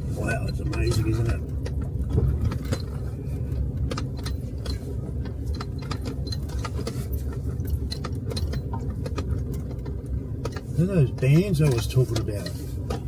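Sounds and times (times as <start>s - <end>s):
engine and tyres droning: 0.0s - 13.0s
light clicks and rattles: 0.2s - 13.0s.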